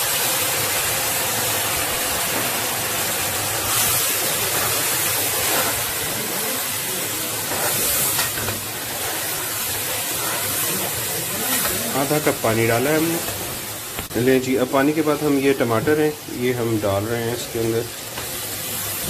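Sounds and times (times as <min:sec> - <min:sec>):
water sizzling in hot oil: 0:00.0 - 0:19.0.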